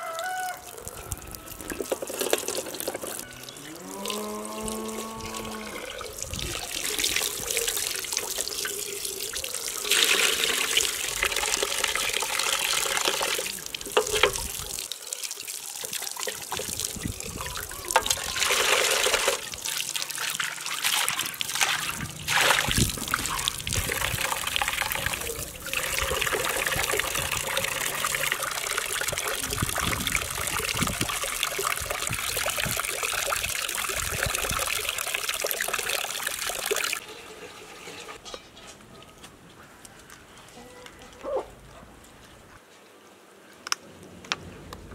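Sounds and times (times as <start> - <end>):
water splashing into a basin: 0.6 - 38.1.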